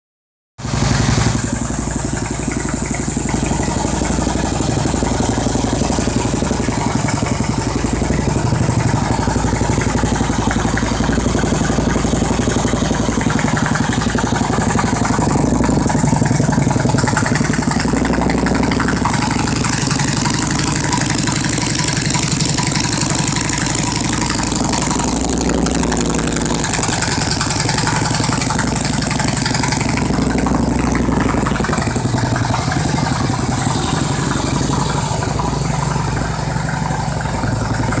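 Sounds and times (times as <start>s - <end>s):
motorcycle engine idling: 0.6s - 38.0s.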